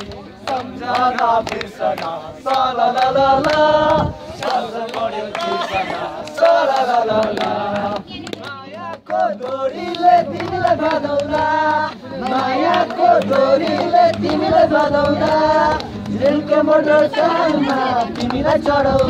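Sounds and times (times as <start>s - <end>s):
group of people singing: 0.0s - 19.0s.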